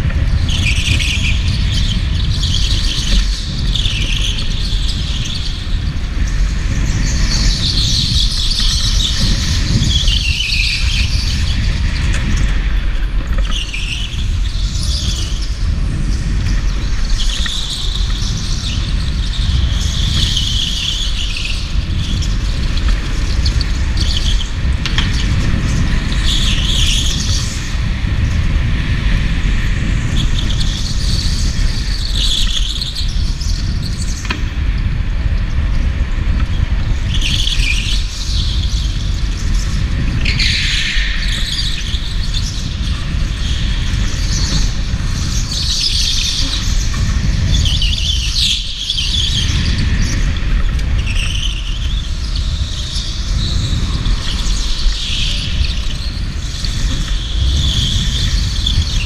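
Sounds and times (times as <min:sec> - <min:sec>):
low rumble of kart and air: 0:00.0 - 0:59.0.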